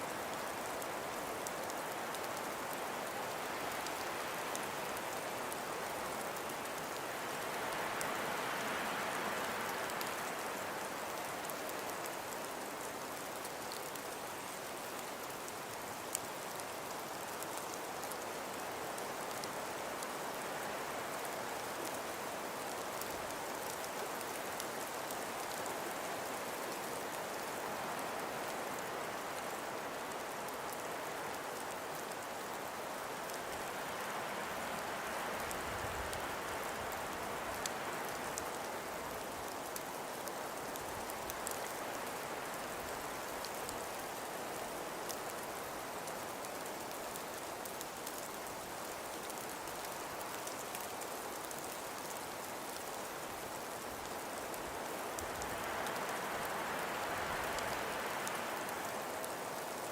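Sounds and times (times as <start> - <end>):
hiss of wind-driven snowfall: 0.0 - 59.9.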